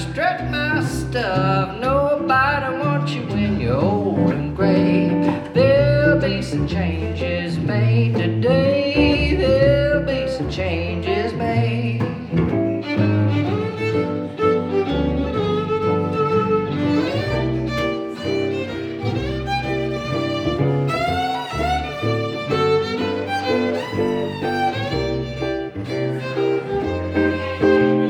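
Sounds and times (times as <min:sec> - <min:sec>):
bass line: 0:00.0 - 0:28.0
fiddle solo: 0:00.0 - 0:28.0.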